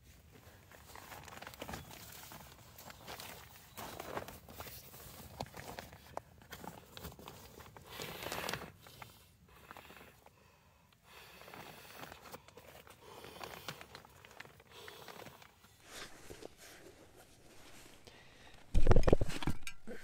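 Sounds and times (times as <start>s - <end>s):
rustling and crinkling: 0.0s - 10.5s, 11.1s - 20.0s.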